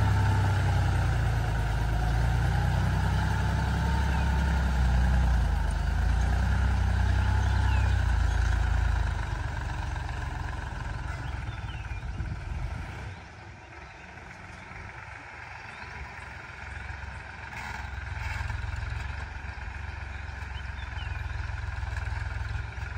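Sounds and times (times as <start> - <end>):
tractor diesel engine under load: 0.0 - 22.9.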